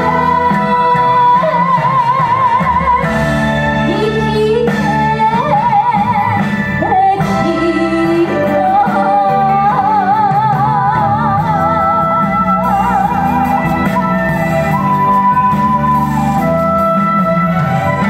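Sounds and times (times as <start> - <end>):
woman singing with vibrato: 0.0 - 15.2
instrumental accompaniment: 0.0 - 18.0.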